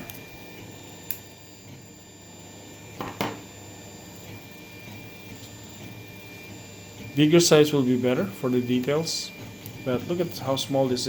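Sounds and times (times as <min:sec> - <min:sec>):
printer humming and whining: 0:00.0 - 0:11.0.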